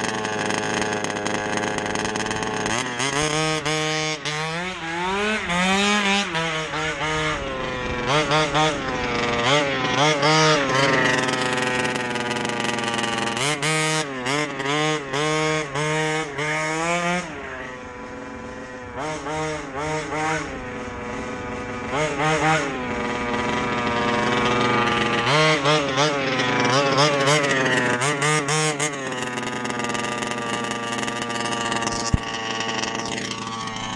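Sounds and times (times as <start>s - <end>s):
rc buggy engine revving: 0.0s - 33.9s.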